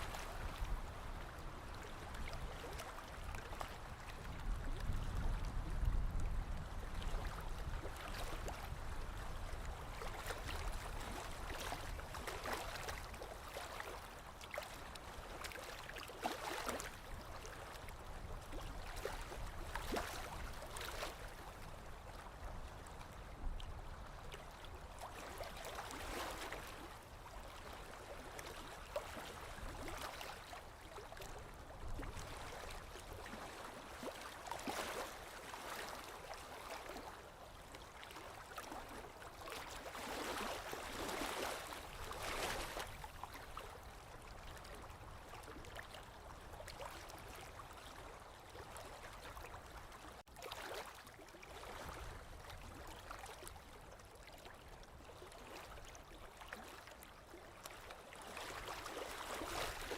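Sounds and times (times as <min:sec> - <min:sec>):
lake waves lapping on shore: 0:00.0 - 0:59.9.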